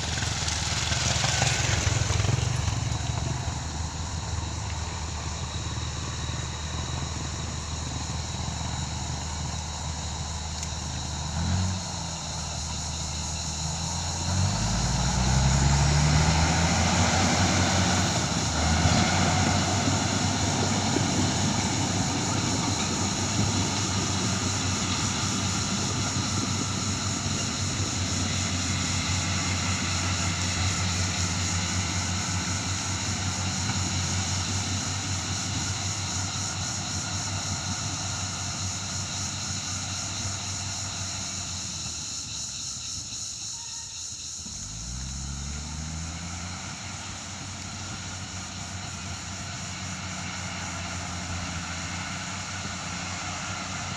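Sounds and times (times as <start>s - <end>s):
excavator diesel engine revving: 0.0s - 53.9s.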